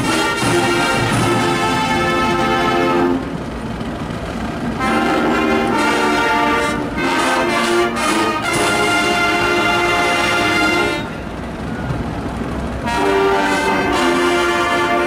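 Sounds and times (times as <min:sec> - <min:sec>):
marching band playing chords: 0:00.0 - 0:15.0.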